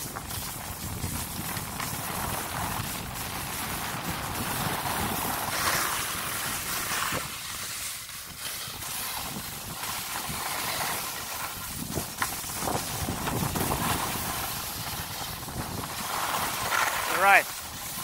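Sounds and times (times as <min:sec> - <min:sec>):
skis scraping over snow: 0:00.0 - 0:18.0
wind on microphone: 0:00.0 - 0:18.0.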